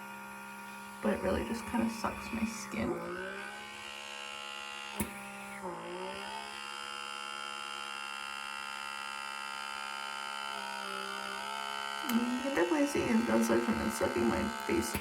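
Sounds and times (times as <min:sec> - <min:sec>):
small motor whining: 0:00.0 - 0:15.0.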